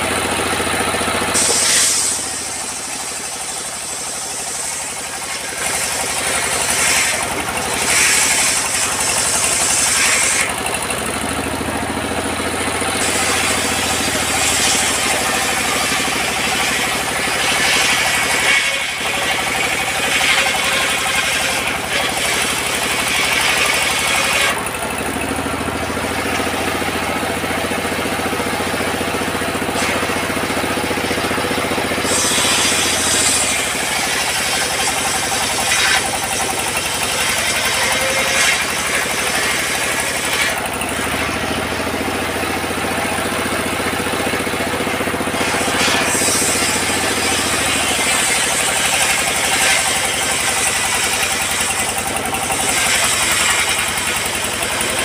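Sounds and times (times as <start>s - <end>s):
circular saw cutting log: 0.0s - 55.0s
diesel engine running: 0.0s - 55.0s.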